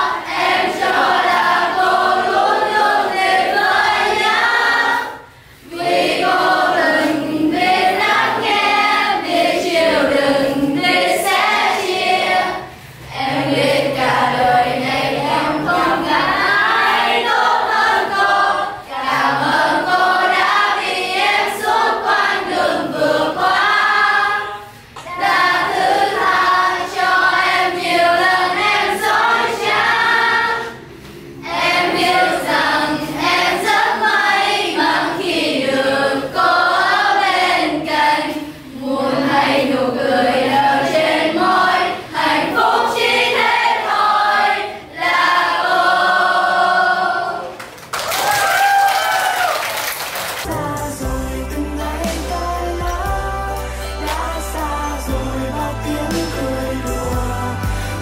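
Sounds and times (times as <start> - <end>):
girls singing in unison: 0.0 - 47.6.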